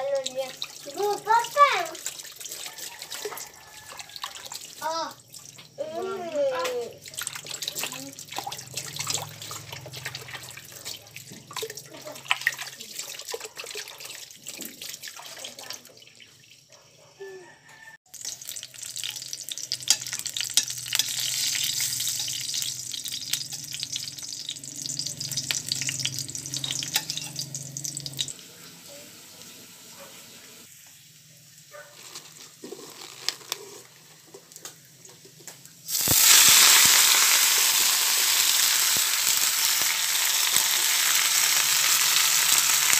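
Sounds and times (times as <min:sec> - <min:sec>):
loud sizzle of greens in oil: 0:00.0 - 0:05.2, 0:05.8 - 0:11.2, 0:18.1 - 0:35.0, 0:35.6 - 0:42.9
garlic sizzling in oil: 0:00.0 - 0:13.4, 0:18.1 - 0:42.9
water and greens in metal colander: 0:00.0 - 0:42.9.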